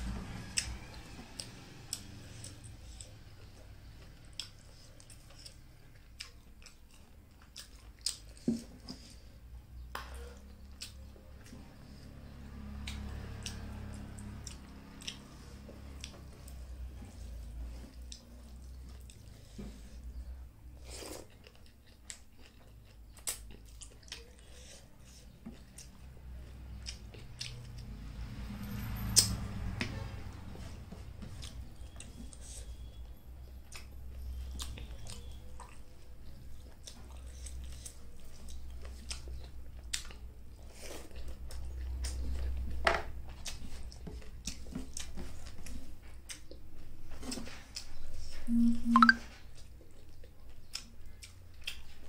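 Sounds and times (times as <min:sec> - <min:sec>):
person chewing rice: 0:00.5 - 0:28.0, 0:30.1 - 0:48.7, 0:49.4 - 0:52.0.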